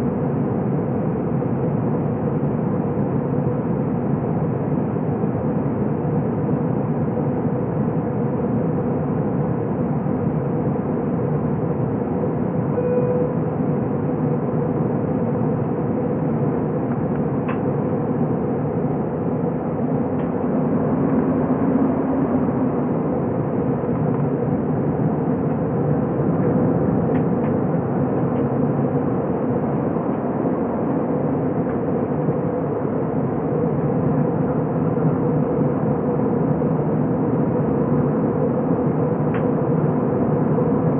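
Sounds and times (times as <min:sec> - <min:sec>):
jet engines and airflow rushing: 0:00.0 - 0:40.9
low cabin hum: 0:00.0 - 0:40.9.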